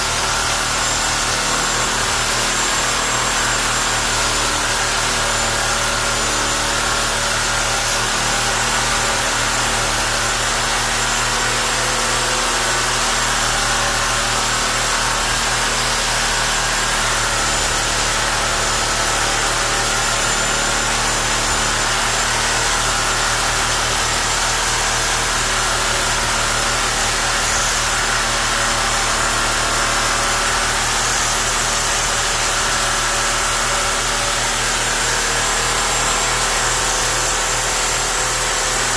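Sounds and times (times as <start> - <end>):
power tool cutting cast iron: 0.0 - 38.9.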